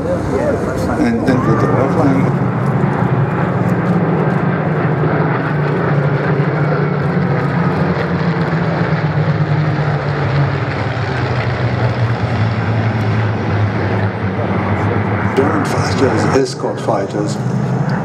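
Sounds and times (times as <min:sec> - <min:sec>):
aircraft piston engine drone: 0:00.0 - 0:18.0.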